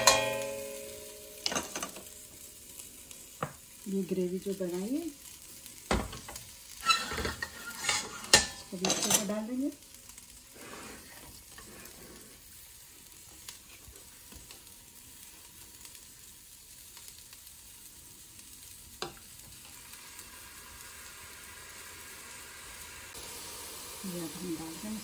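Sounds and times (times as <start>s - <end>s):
pot sizzling on burner: 0.0s - 25.0s.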